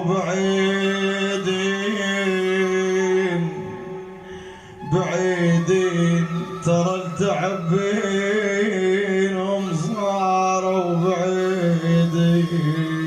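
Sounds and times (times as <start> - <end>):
man singing a lament: 0.0 - 13.0.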